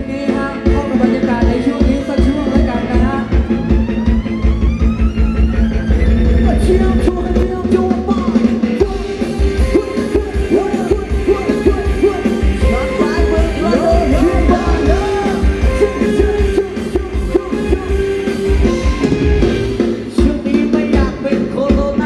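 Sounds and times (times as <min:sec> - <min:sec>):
person singing: 0:00.0 - 0:03.6, 0:06.8 - 0:18.9, 0:20.0 - 0:22.0
live band dance music: 0:00.0 - 0:22.0.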